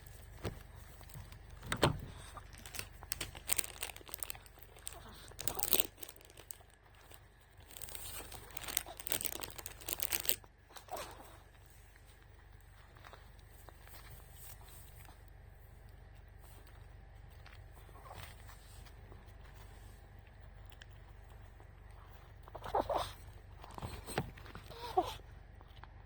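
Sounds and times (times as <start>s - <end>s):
crinkling and rustling: 0.0s - 26.0s.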